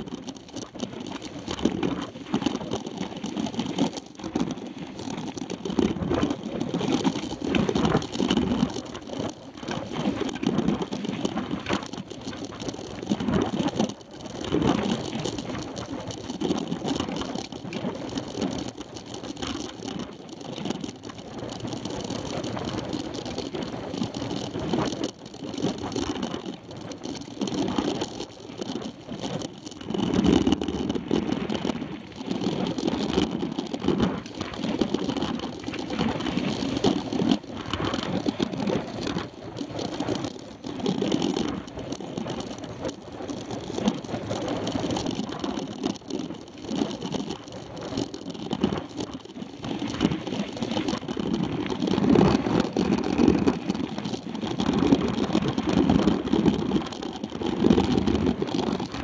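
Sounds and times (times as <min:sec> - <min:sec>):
bike rumbling on dirt road: 0:00.0 - 0:59.0.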